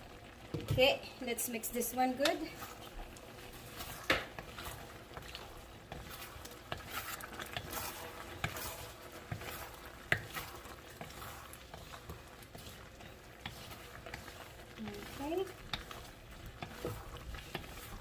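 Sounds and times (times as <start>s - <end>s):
sauce sizzling in a pan: 0.0s - 18.0s
utensil scraping a pan: 2.1s - 18.0s.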